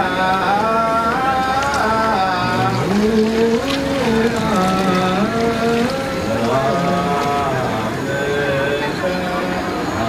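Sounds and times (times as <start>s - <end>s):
voices chanting long notes: 0.0s - 10.0s.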